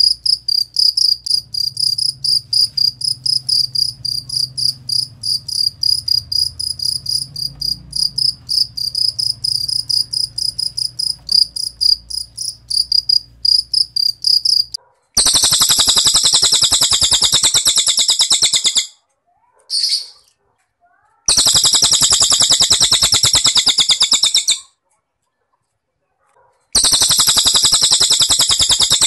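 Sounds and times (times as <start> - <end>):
cricket chirping: 0.0 - 18.9, 21.3 - 24.6, 26.8 - 29.0
bird rattling trill: 0.0 - 19.0, 21.3 - 24.7, 26.8 - 29.0.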